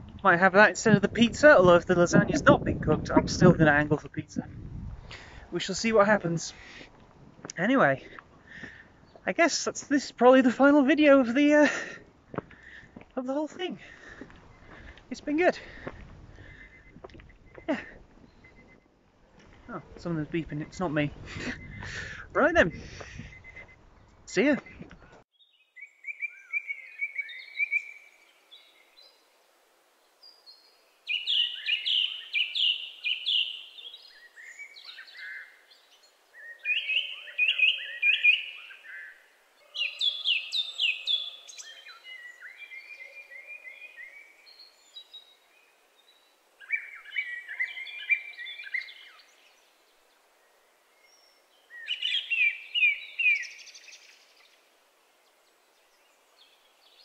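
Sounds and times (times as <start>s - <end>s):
songbirds trilling: 0.3s - 29.4s, 30.0s - 57.0s.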